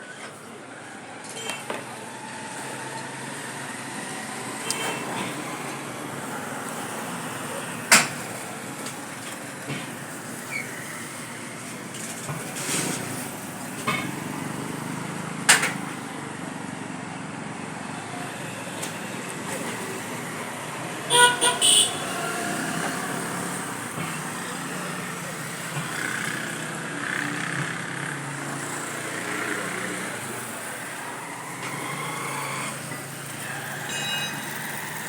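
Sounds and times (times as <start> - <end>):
traffic hum: 0.0 - 35.0.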